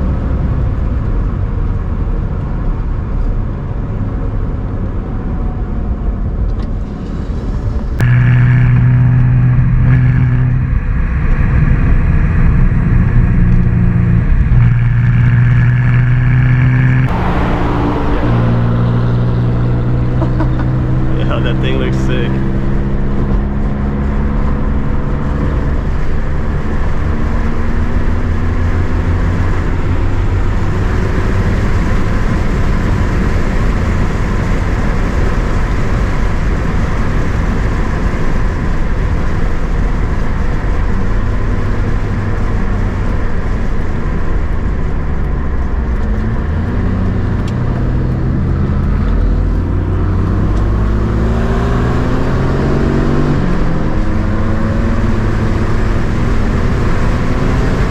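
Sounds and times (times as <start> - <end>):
tyre and road noise: 0.0 - 57.9
car engine revving: 6.9 - 57.9.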